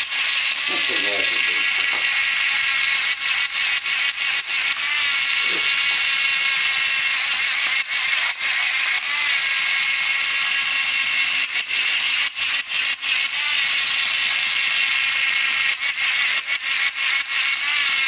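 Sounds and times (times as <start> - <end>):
toy motor whirring: 0.0 - 18.0.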